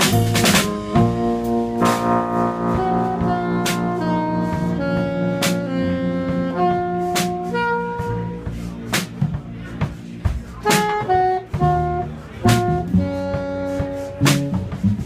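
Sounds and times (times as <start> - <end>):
saxophone melody: 0.0 - 8.8, 10.6 - 15.0
jazz band accompaniment: 0.0 - 15.0.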